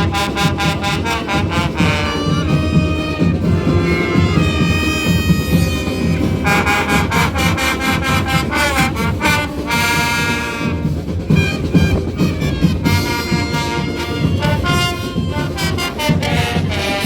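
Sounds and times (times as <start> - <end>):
brass stabs: 0.0 - 17.0
fast steady drumming: 0.0 - 17.0
marching band playing: 0.0 - 17.0.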